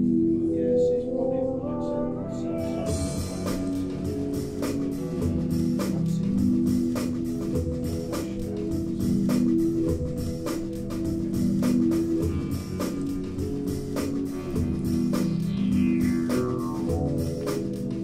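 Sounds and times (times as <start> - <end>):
music with steady beat over low notes: 2.4 - 18.0.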